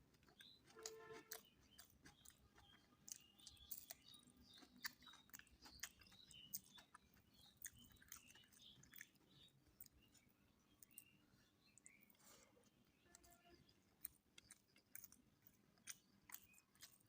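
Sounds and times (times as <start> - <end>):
close-up chewing: 0.0 - 17.0.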